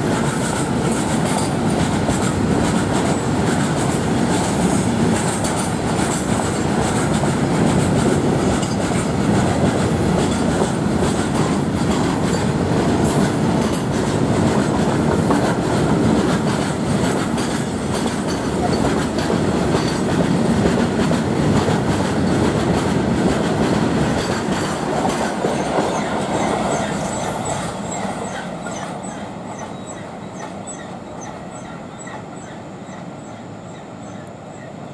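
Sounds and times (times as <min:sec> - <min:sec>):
train wheels clattering over rail joints: 0:00.0 - 0:30.0.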